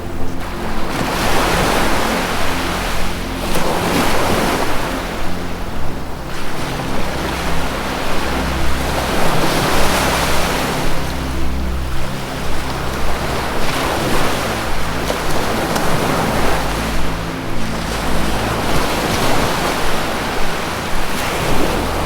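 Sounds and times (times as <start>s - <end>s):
low musical drone: 0.0s - 22.0s
ocean waves washing in: 0.0s - 22.0s.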